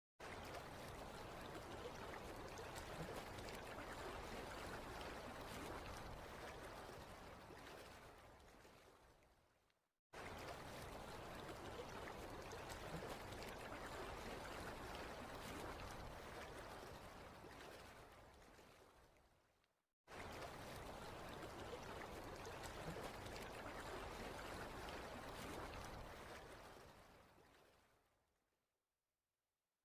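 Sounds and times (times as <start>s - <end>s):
small water splashes: 0.2s - 28.2s.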